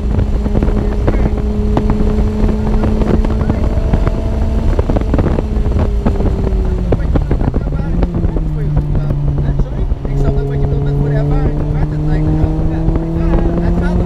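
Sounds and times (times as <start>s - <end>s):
car engine at high revs: 0.0s - 14.0s
wind buffeting on microphone: 0.0s - 14.0s.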